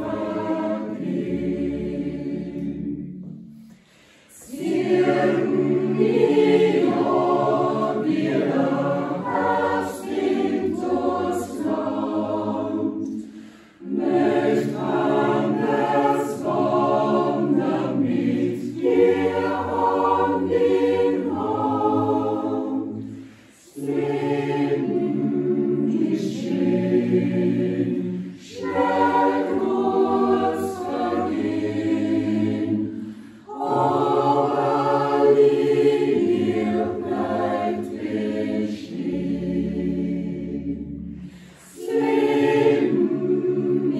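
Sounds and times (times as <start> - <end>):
mixed choir singing a cappella: 0.0 - 43.9.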